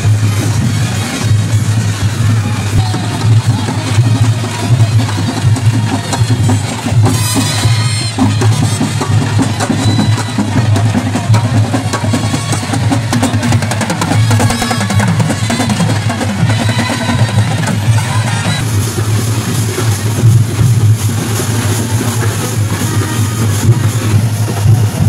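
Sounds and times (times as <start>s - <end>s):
festival drumming: 0.0s - 25.0s.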